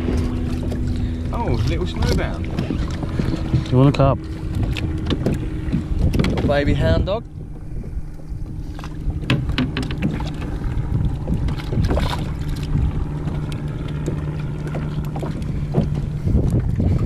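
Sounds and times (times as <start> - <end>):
steady low hum: 0.0 - 17.0
water lapping against kayak hull: 0.0 - 17.0
wind on microphone: 0.0 - 17.0.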